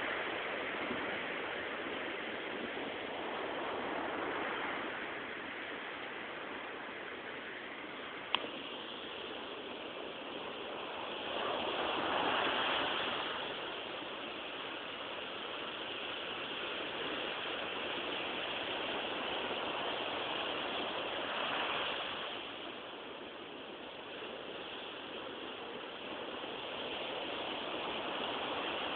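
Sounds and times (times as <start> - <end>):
sea waves breaking on shore: 0.0 - 28.9.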